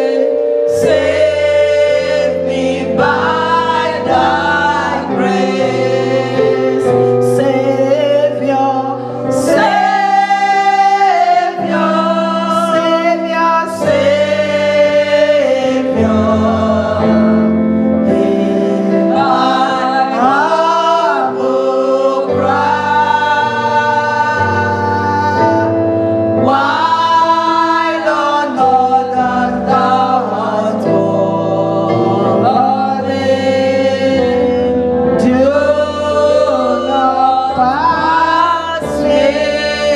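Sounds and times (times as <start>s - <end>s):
choir singing: 0.0s - 39.9s
steady musical accompaniment: 0.0s - 39.9s.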